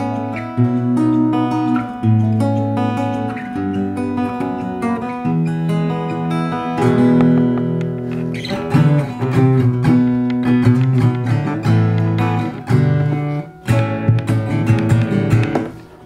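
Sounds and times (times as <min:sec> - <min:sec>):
fingerpicked acoustic guitar: 0:00.0 - 0:16.0.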